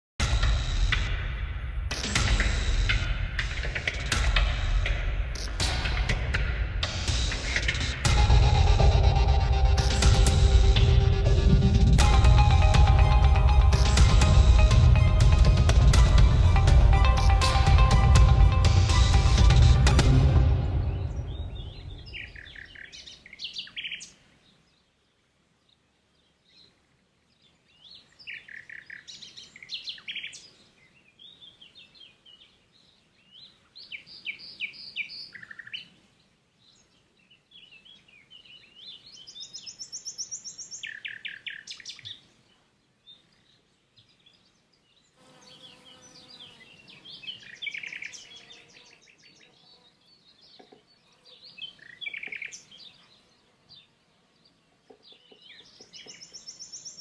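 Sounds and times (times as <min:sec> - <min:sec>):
songbirds chirping and trilling: 0:00.3 - 0:57.0.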